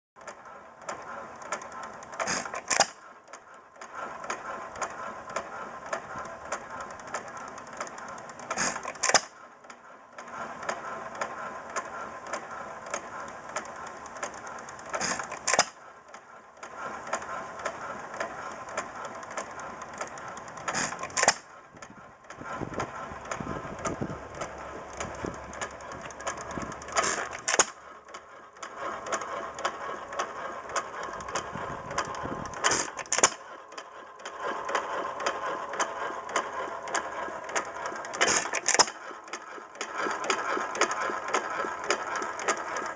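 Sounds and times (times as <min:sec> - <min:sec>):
engine mechanical clicking: 0:00.2 - 0:42.9.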